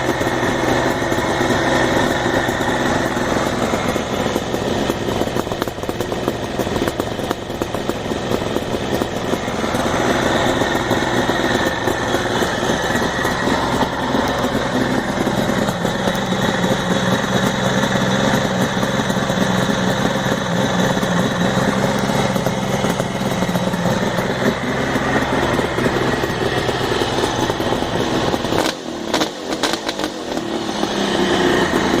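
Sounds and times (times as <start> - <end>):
two-stroke motorcycle engine running: 0.0 - 32.0.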